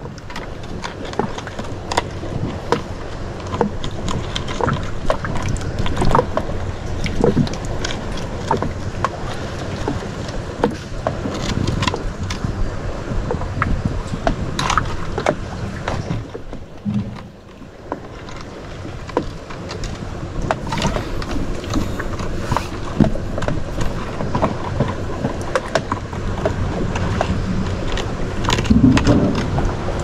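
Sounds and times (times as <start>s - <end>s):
steady low rumble: 0.0s - 30.0s
water lapping at boat hull: 0.0s - 30.0s.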